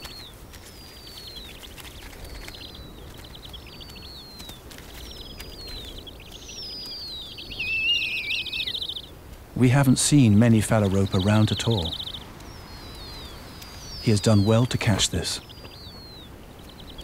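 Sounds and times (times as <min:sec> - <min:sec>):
owlets whistling calls: 0:00.0 - 0:17.0.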